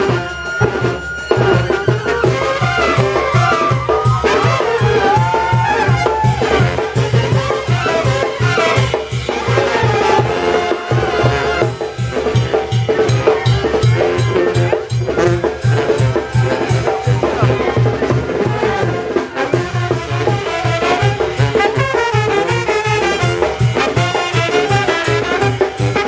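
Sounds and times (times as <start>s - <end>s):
brass band playing dance tune: 0.0s - 26.0s.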